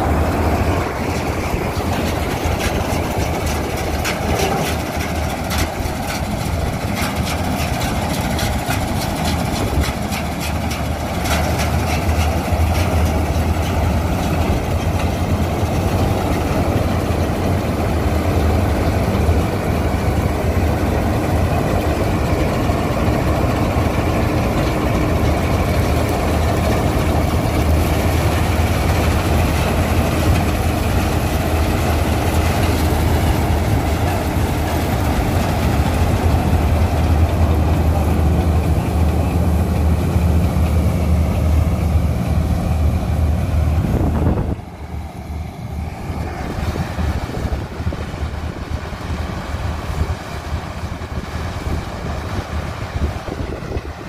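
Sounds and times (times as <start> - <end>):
combine harvester engine droning: 0.0 - 54.0
rush of machinery: 0.0 - 54.0.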